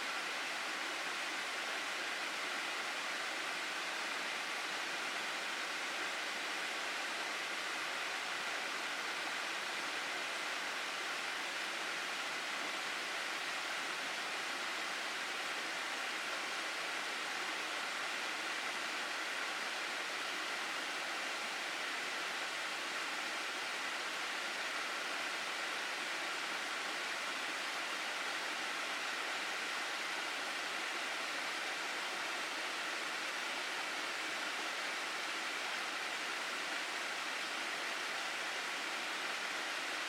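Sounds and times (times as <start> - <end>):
mountain stream rushing: 0.0 - 40.0.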